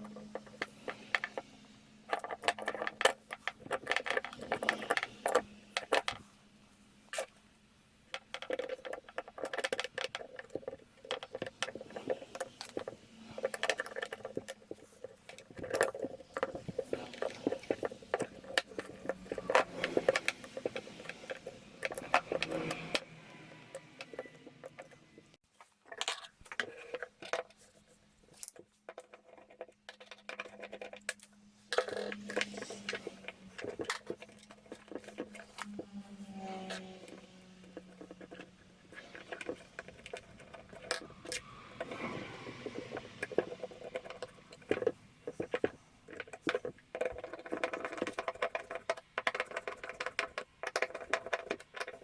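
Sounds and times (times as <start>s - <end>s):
small metal and plastic parts clicking: 0.0s - 6.3s, 7.1s - 52.0s.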